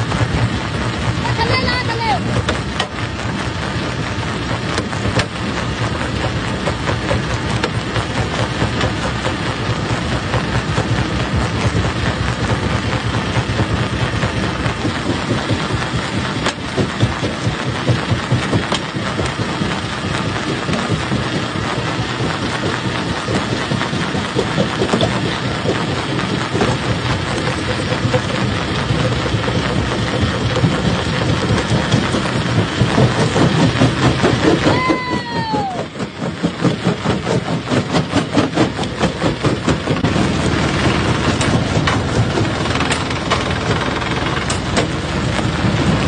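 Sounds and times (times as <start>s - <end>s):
machine drone: 0.0s - 46.0s.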